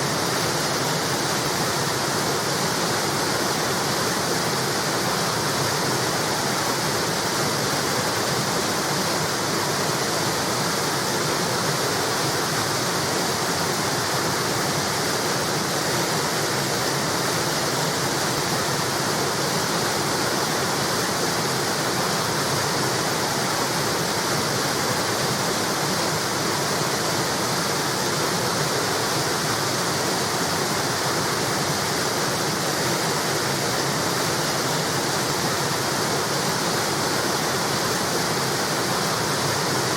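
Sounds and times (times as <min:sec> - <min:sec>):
river water pouring over wall: 0:00.0 - 0:39.9.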